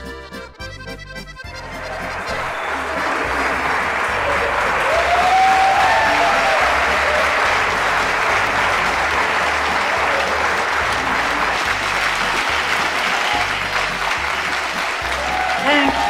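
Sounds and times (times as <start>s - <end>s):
audience applauding: 1.5s - 16.0s.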